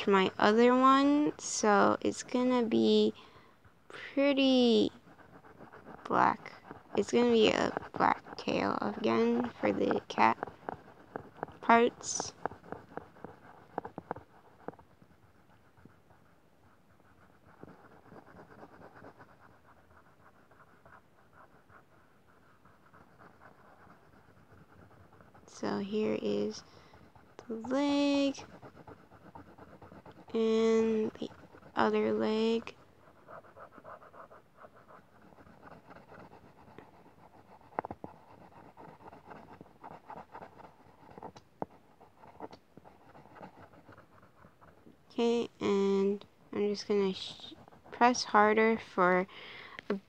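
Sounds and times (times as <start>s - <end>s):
pencil scratching on paper: 0.0s - 49.3s.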